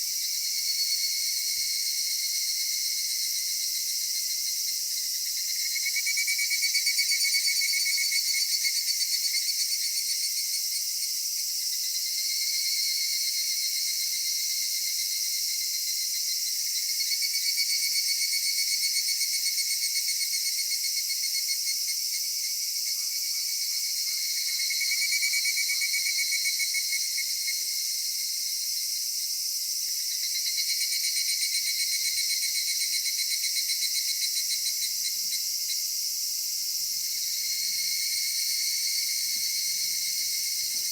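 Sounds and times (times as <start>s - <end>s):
cicadas chorus: 0.0s - 40.9s.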